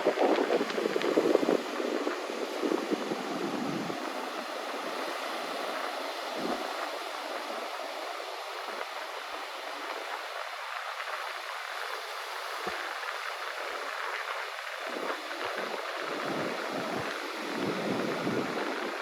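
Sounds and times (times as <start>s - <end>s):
surf washing onto sandy beach: 0.0s - 19.0s
wind buffeting microphone: 0.0s - 19.0s.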